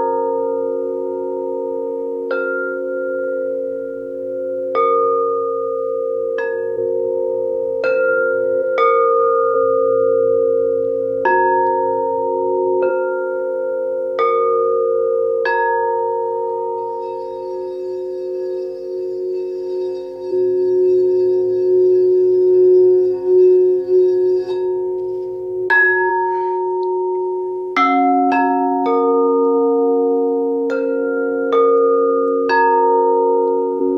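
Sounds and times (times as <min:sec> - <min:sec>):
singing bowls ringing: 0:00.0 - 0:33.9.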